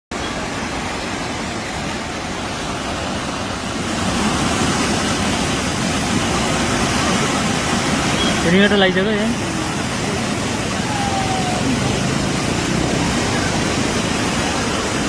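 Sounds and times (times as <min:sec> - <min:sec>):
floodwater rushing: 0:00.1 - 0:15.0.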